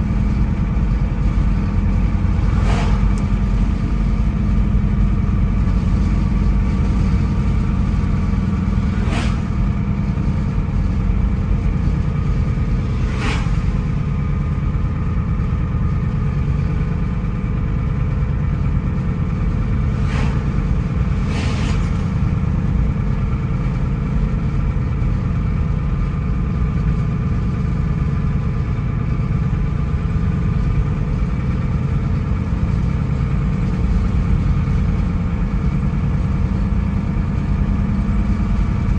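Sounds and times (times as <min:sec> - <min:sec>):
car engine drone: 0:00.0 - 0:38.9
road noise: 0:00.0 - 0:38.9.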